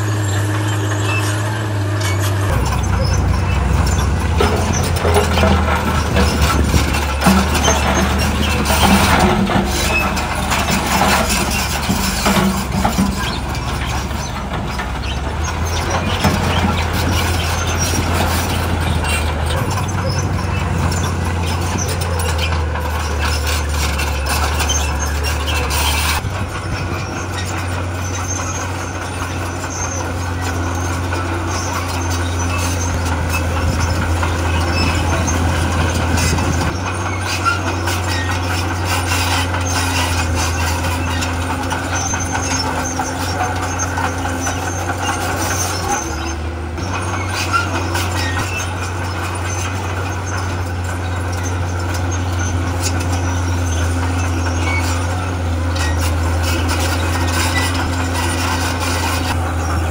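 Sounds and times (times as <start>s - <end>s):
heavy diesel machinery working: 0.0s - 59.9s
rough gritty noise: 0.0s - 59.9s.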